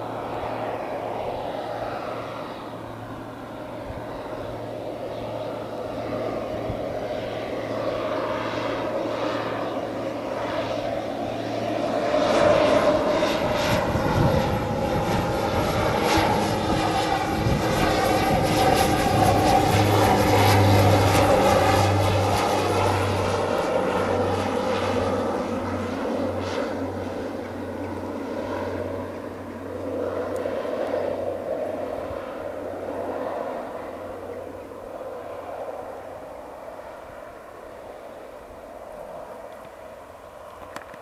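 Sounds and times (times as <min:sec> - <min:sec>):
propeller aircraft drone: 0:00.0 - 0:41.0.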